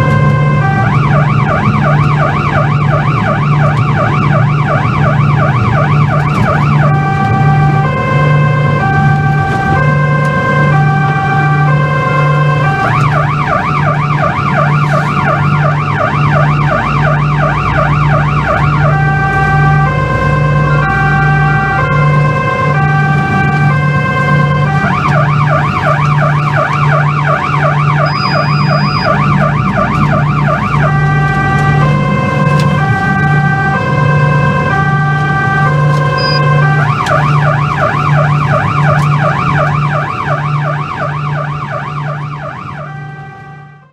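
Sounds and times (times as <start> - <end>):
electronic siren: 0.0 - 43.9.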